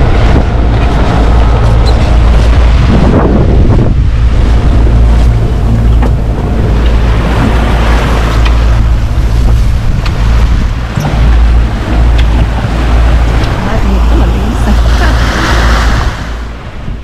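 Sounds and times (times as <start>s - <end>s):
boat engine drone: 0.0s - 17.0s
waves rushing along hull: 0.0s - 17.0s
wind buffeting microphone: 0.0s - 17.0s.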